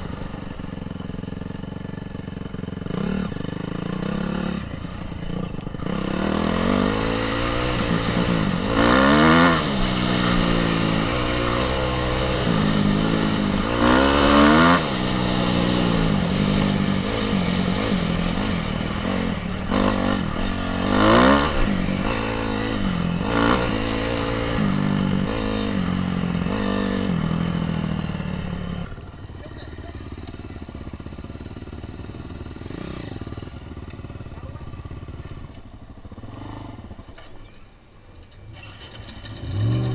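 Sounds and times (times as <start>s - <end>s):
off-road engine revving: 0.0s - 29.7s, 32.5s - 33.7s, 38.5s - 39.9s.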